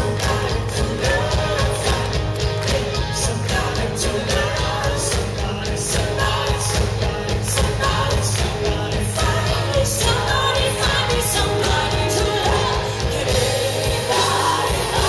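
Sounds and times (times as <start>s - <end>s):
live rock band playing: 0.0s - 15.0s
woman singing: 0.0s - 15.0s.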